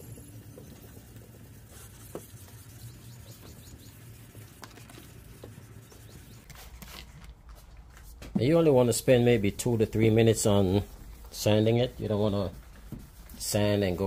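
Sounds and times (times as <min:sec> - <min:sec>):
sandpaper rubbing on plastic: 0:00.1 - 0:07.4, 0:08.0 - 0:14.0.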